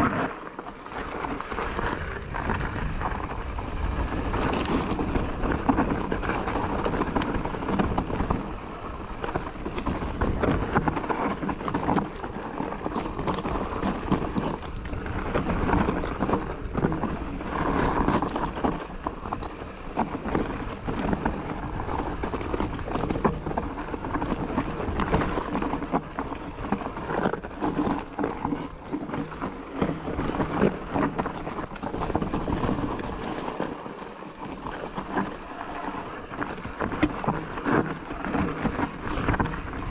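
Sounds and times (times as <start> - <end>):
bike rattling: 0.0 - 39.9
tyres rolling over dirt and stone: 0.0 - 39.9.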